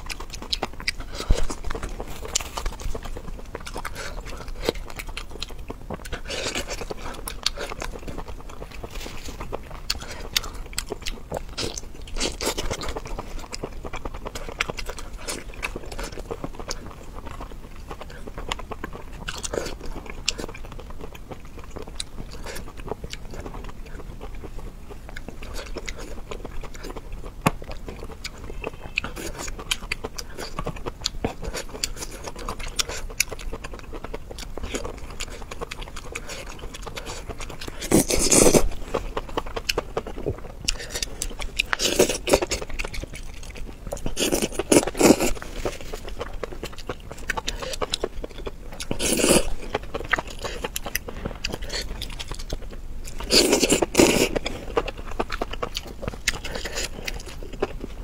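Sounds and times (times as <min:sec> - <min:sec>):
wet chewing and biting: 0:00.0 - 0:58.0.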